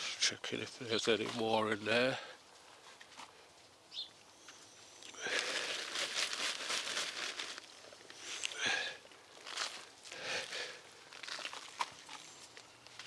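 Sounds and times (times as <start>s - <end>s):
hands rustling through potting soil: 0.0s - 3.7s, 4.4s - 13.0s.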